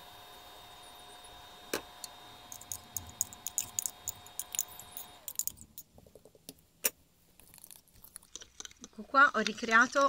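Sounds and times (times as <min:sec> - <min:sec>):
faint steady whine: 0:00.0 - 0:10.0.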